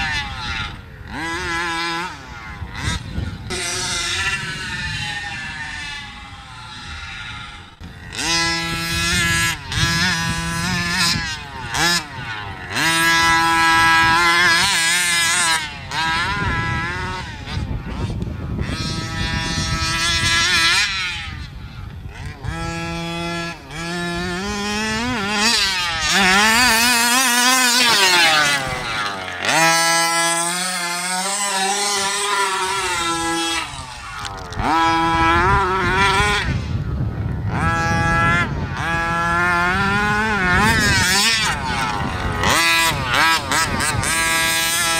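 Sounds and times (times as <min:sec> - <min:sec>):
small two-stroke engine revving: 0:00.0 - 0:44.9.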